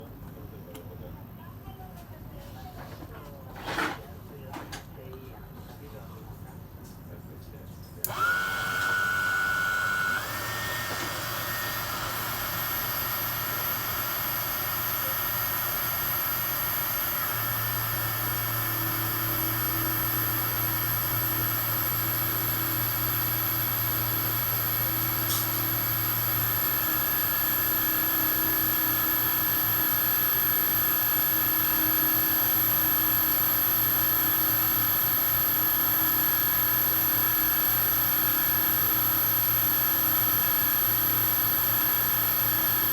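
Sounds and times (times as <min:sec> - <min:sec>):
lathe motor whine: 0:08.0 - 0:42.9.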